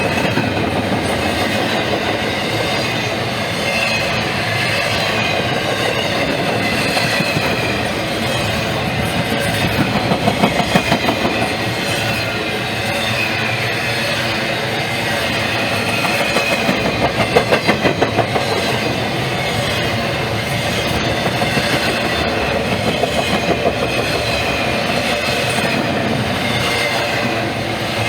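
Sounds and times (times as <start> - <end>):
wheels clacking over rail joints: 0.0 - 13.6, 14.2 - 28.0
freight train rumbling past: 0.0 - 28.0.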